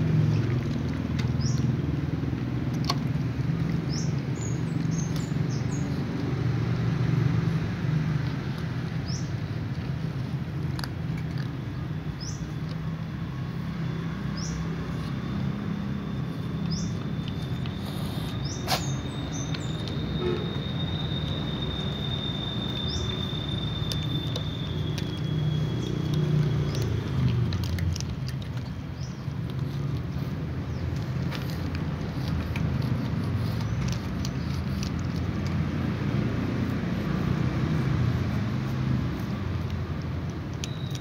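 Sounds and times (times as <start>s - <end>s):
cats crunching dry kibble: 0.0s - 41.0s.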